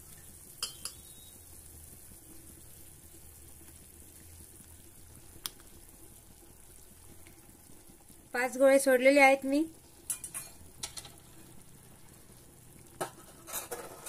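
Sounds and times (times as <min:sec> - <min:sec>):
water boiling in pot: 0:00.0 - 0:14.0.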